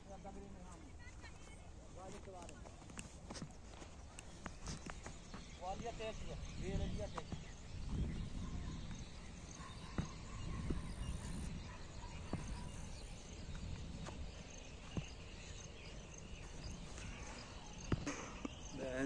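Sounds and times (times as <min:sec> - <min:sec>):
faint insect chirping: 0:00.0 - 0:19.0.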